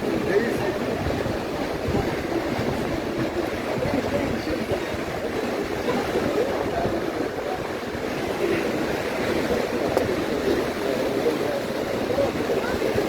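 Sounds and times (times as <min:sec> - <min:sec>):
surf washing onto beach: 0:00.0 - 0:13.0
wind on microphone: 0:00.0 - 0:13.0.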